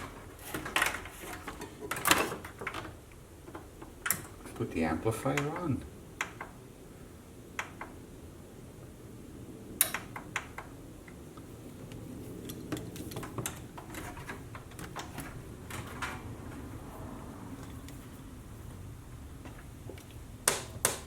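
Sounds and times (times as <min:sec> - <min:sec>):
low steady background noise: 0:00.0 - 0:21.0.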